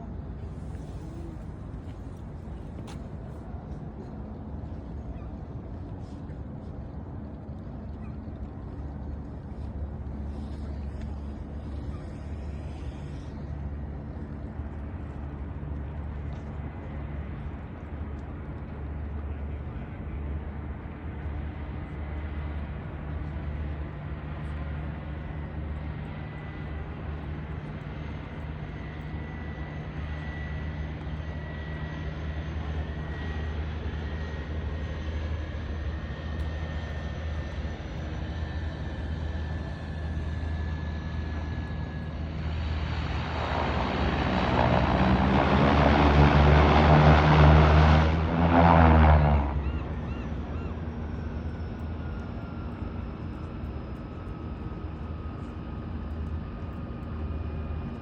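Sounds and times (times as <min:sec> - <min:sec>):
propeller engine droning: 0:00.0 - 0:58.0.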